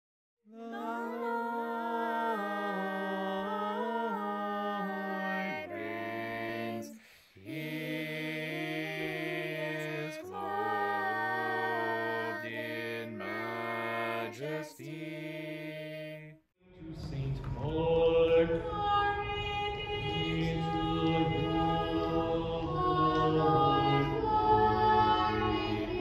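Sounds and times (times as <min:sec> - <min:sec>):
voices chanting slow melody: 0:00.5 - 0:16.4, 0:17.0 - 0:26.0.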